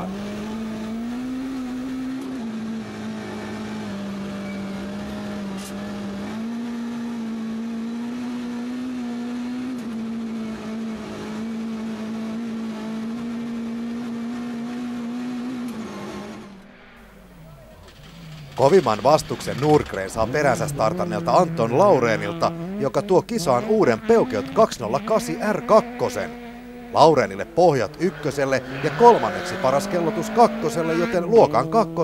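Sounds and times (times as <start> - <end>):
rally car engine at high revs: 0.0 - 32.0.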